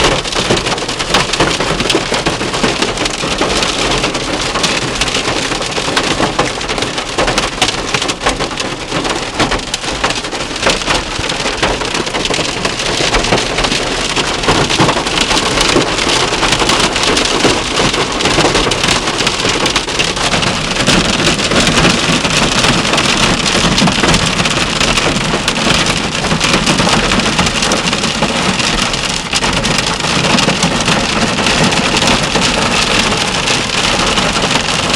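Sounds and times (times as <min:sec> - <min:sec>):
hail and rain on car roof: 0:00.0 - 0:34.9.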